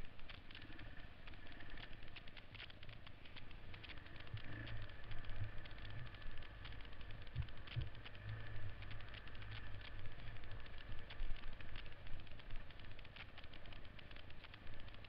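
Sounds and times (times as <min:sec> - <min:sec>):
bike clicks and rattles: 0:00.0 - 0:15.0.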